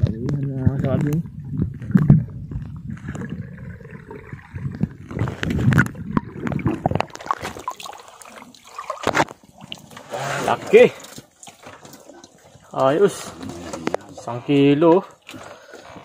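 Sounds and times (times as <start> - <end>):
water sloshing and gurgling: 0.0 - 16.0.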